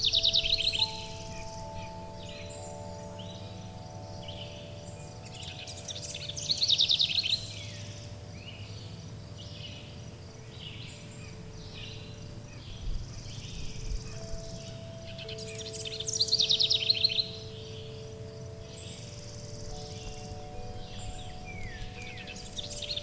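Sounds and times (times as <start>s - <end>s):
forest birds chirping: 0.0s - 23.0s
loud rapid bird trill: 0.0s - 23.0s
sustained chime tones: 0.0s - 23.0s.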